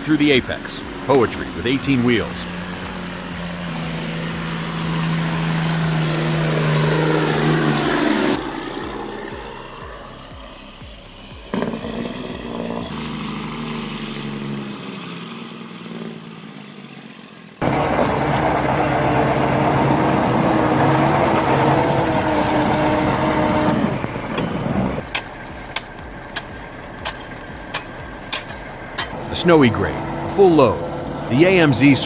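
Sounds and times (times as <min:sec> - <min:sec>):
heavy truck engine running: 0:00.0 - 0:32.0.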